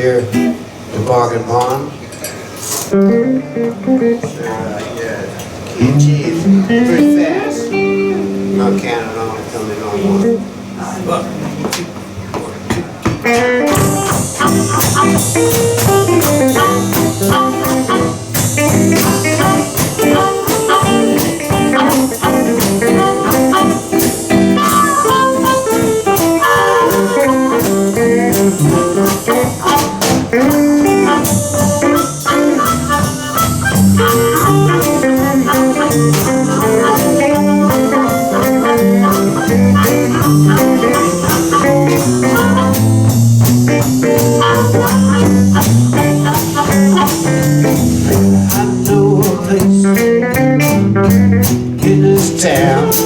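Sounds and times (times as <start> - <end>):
guitars playing blues: 0.0 - 1.2, 2.8 - 53.0
drum kit beat: 5.8 - 8.8, 12.0 - 53.0.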